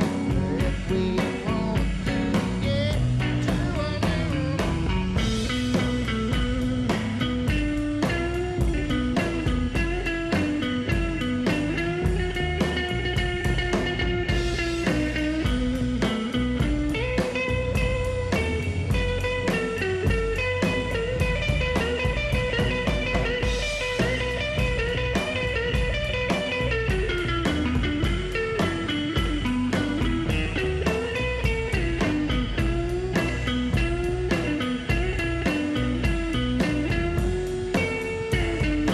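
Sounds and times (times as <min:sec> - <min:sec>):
rockabilly band playing: 0:00.0 - 0:38.9.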